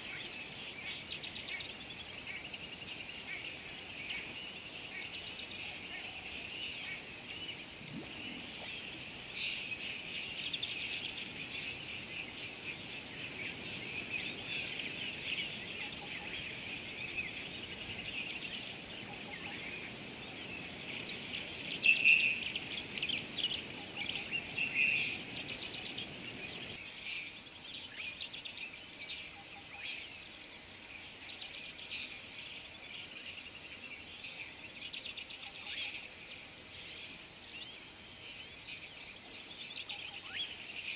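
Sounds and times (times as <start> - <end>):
insect trill: 0.0 - 40.9.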